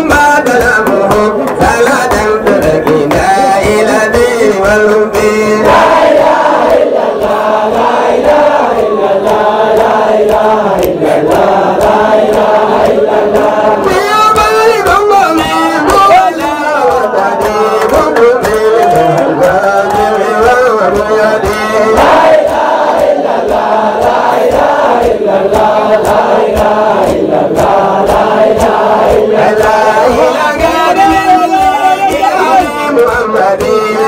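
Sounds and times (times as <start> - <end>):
man singing devotional chant: 0.0 - 34.0
other voices singing: 0.0 - 34.0
steady beat: 0.0 - 34.0.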